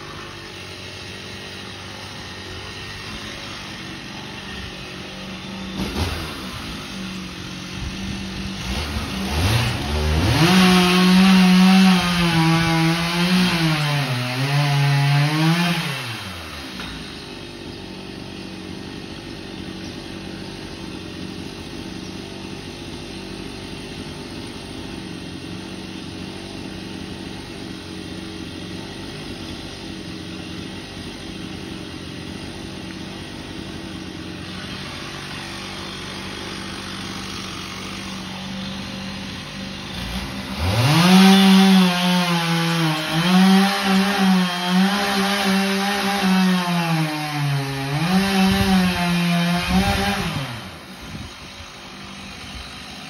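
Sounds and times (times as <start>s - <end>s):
chainsaw cutting into palm trunk: 0.0s - 53.0s.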